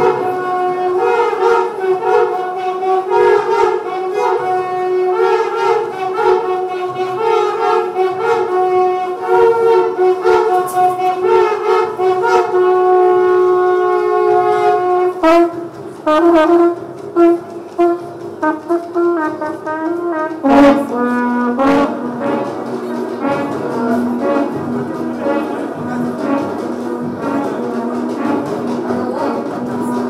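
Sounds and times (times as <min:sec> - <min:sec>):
horns playing: 0:00.0 - 0:30.0.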